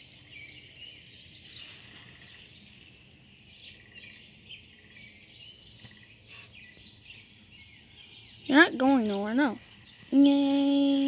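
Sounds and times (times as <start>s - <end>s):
faint outdoor background noise: 0.0s - 11.0s
small birds chirping: 0.0s - 11.0s.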